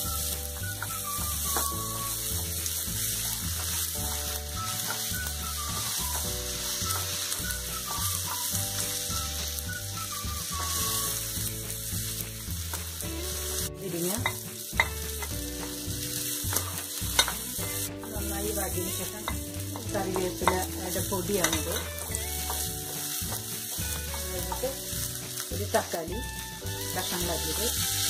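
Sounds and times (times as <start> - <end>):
onion sizzling in hot oil: 0.0 - 28.0
soft background music: 0.0 - 28.0.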